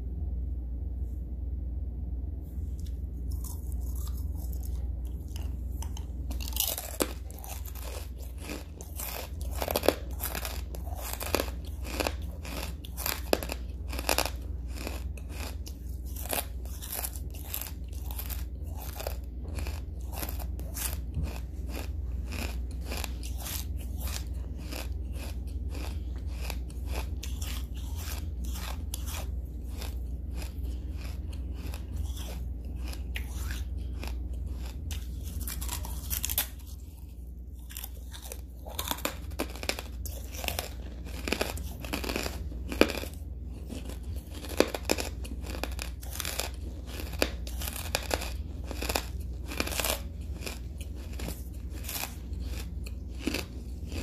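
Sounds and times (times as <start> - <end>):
low steady hum: 0.0 - 54.0
charcoal crunching while chewed: 2.8 - 54.0.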